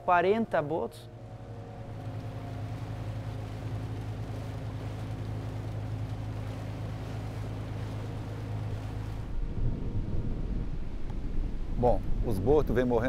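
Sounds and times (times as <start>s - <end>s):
boat motor humming: 0.0s - 12.2s.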